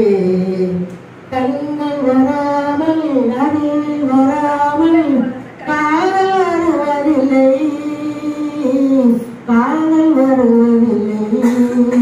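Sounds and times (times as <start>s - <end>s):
woman singing into microphone: 0.0s - 12.0s.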